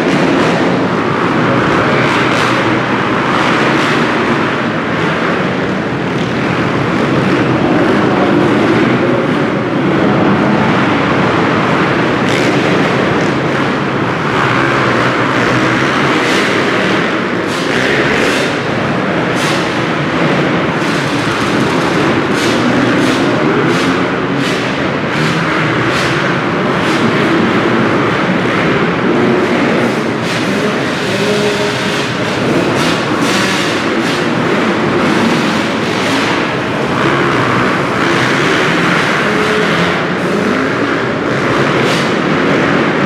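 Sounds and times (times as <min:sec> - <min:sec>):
motocross bike engines revving: 0:00.0 - 0:43.0.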